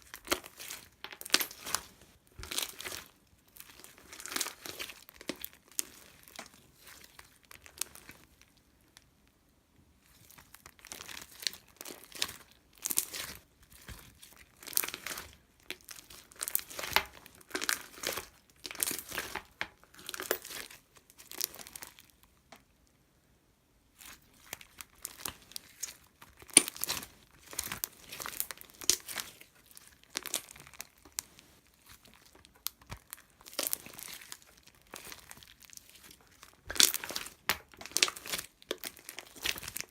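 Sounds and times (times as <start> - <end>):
crinkling and crumpling: 0.0 - 9.1, 10.0 - 22.7, 23.9 - 39.9.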